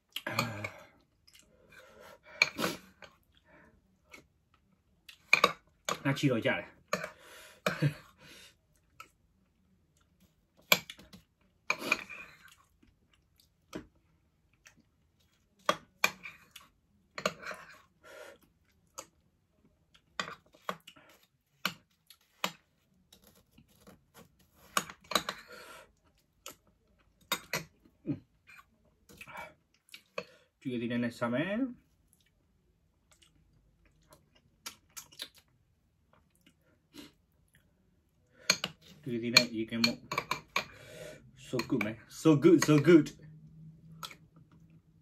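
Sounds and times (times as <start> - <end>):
person chewing: 0.0 - 5.9, 6.9 - 30.3, 32.0 - 32.4, 33.0 - 39.0, 43.8 - 44.8.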